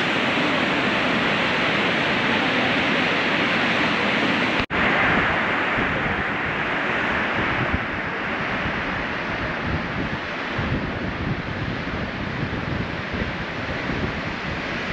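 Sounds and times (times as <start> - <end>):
ocean surf breaking over rocks: 0.0 - 14.9
wind on microphone: 0.0 - 14.9.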